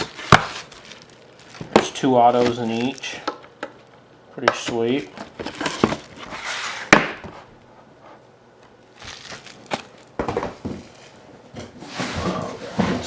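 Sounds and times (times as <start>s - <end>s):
packaging crinkling and scraping: 0.0s - 4.0s, 4.6s - 8.2s, 8.9s - 13.0s.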